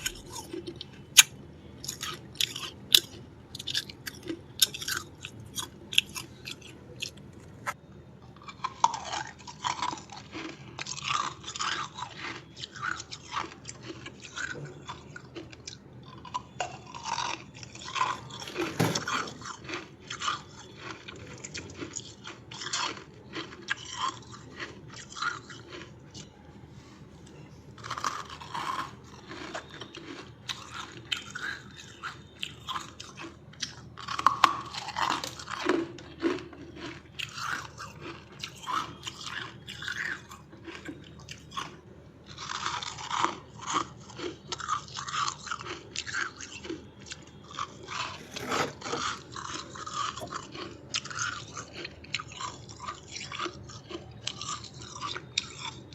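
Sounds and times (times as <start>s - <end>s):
crunching and chewing frost: 0.0s - 55.9s.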